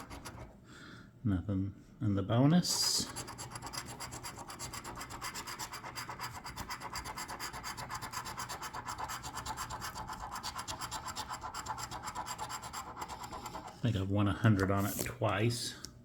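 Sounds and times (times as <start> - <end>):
lottery ticket scratching: 0.0 - 0.5, 2.6 - 15.4.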